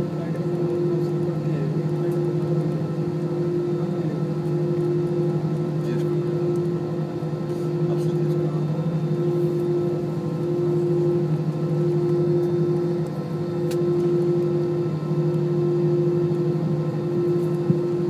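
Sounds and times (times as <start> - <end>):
jet engine drone in cabin: 0.0 - 18.0.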